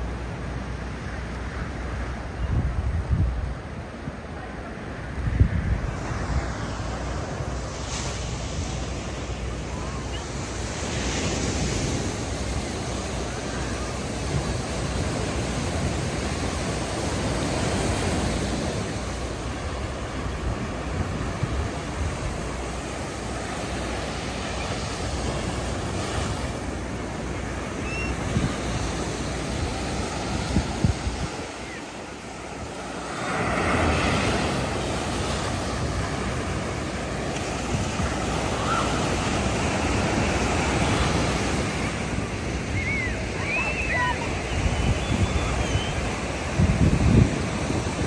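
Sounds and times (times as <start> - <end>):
ocean surf breaking on rocks: 0.0 - 48.0
wind buffeting microphone: 2.4 - 3.9, 4.9 - 10.2, 11.2 - 48.0.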